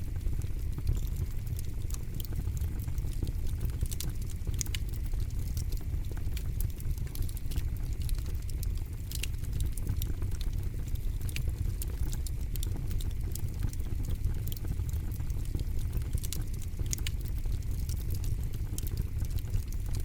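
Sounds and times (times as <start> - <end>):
campfire snaps and pops: 0.0 - 20.0.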